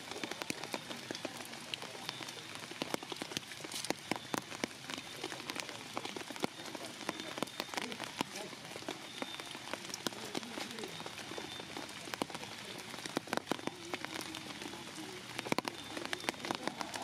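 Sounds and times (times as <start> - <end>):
sharp raindrop hits: 0.0 - 17.0
steady rain: 0.0 - 17.0.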